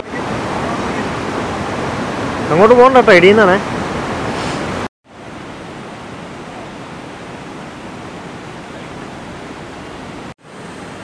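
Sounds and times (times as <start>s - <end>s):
river rushing in flood: 0.0s - 11.0s.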